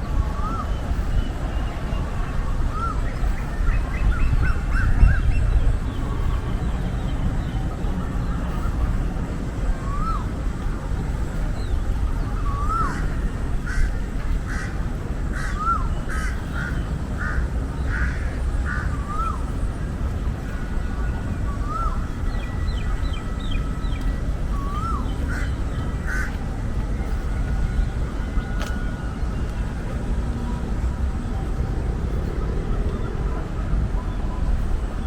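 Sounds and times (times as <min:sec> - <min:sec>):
harsh bird calls: 0:00.0 - 0:35.0
low rumble of city traffic: 0:00.0 - 0:35.0.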